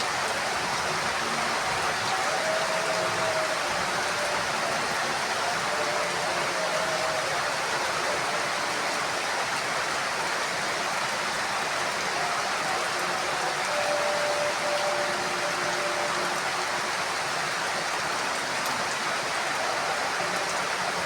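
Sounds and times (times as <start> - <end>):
heavy rain on a roof: 0.0 - 21.0.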